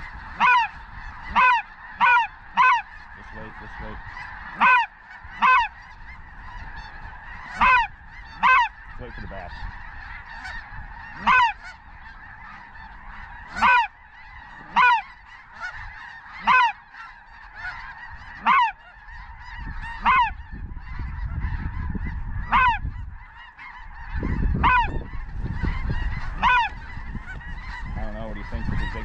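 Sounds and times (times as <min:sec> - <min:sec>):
flock of geese clamouring: 0:00.0 - 0:29.0
goose honking: 0:00.0 - 0:29.0
wind rumble on microphone: 0:00.0 - 0:29.0.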